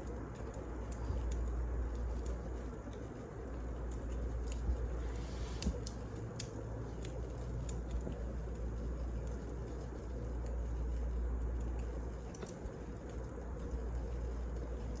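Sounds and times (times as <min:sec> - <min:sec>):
fire snapping: 0:00.0 - 0:15.0
wood fire crackling: 0:00.0 - 0:15.0.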